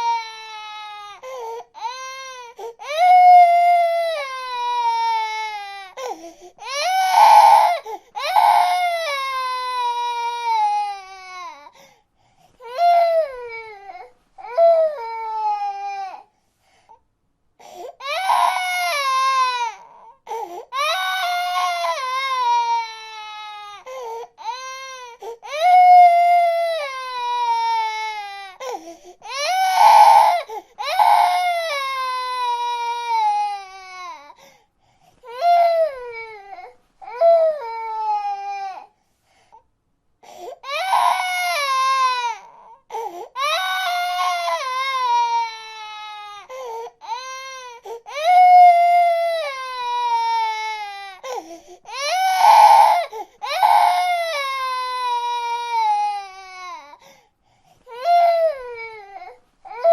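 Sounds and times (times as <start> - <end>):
baby crying: 0.0 - 11.7, 12.6 - 16.3, 17.9 - 34.4, 35.3 - 38.9, 40.6 - 57.1, 57.9 - 59.9.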